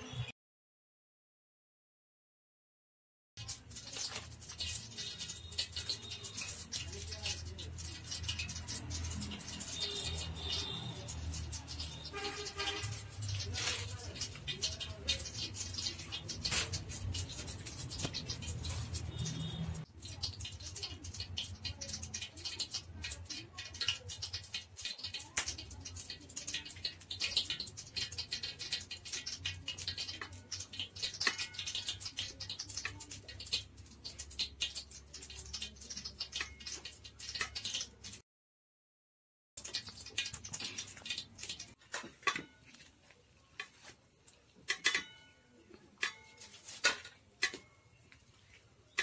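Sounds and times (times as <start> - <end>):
clicks and taps in a bowl: 3.4 - 38.2, 43.6 - 48.2.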